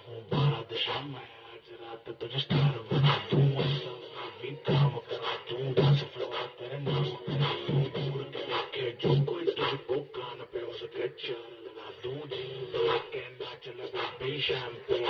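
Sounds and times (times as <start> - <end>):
song with bass beat: 0.0 - 1.2, 2.2 - 15.0.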